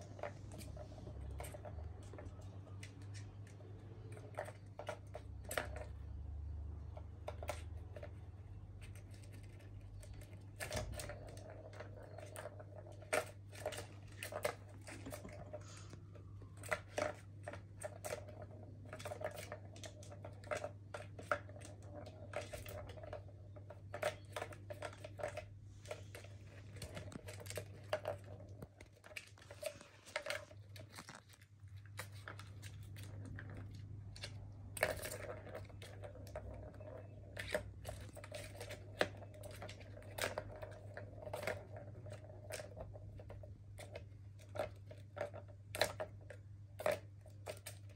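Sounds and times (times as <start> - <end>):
plastic balls rattling in toy tracks: 0.0 - 47.9.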